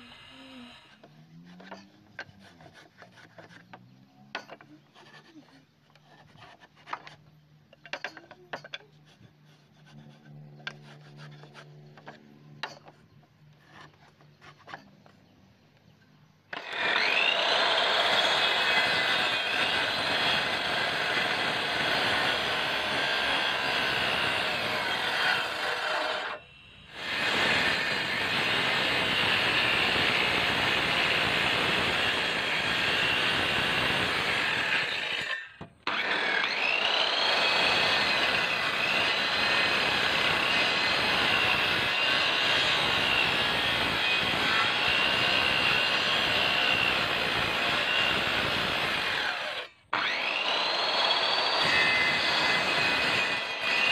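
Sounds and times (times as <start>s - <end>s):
circular saw cutting wood: 0.0s - 15.3s, 16.5s - 53.9s.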